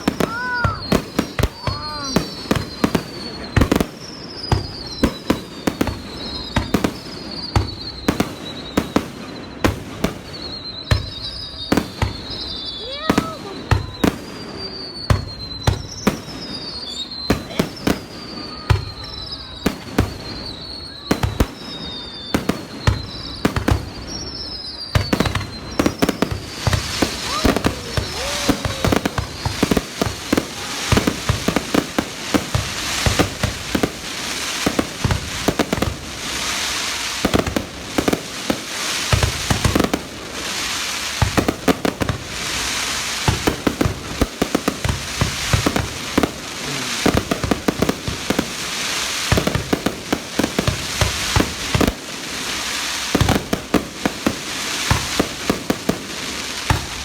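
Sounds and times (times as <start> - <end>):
falling firework whistles: 0.0 - 57.0
firework bangs: 0.0 - 57.0
firework crackle: 0.0 - 57.0.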